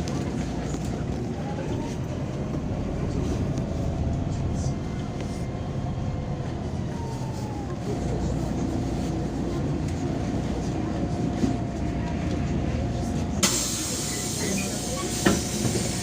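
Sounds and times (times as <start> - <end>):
bus engine rumble: 0.0 - 16.0
bus whine: 0.0 - 16.0.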